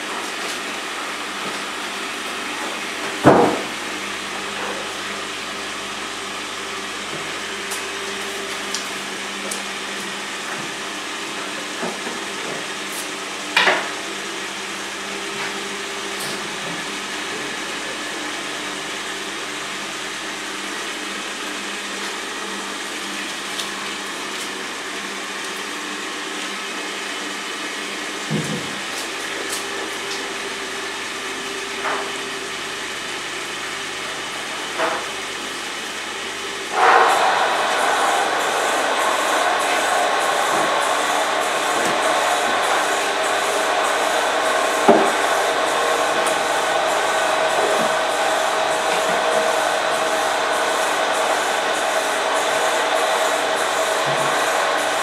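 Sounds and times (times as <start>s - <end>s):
honey extractor motor hum: 0.0s - 55.0s.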